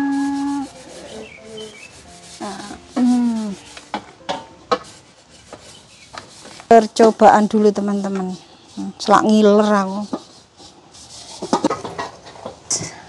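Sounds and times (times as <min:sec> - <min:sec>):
utensil scraping in cooking pot: 0:00.0 - 0:12.8.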